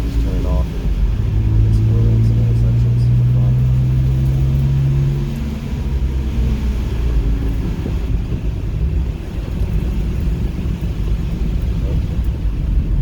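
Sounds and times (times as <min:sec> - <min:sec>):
car engine under throttle: 0:00.0 - 0:13.0
tyres and road noise: 0:00.0 - 0:13.0.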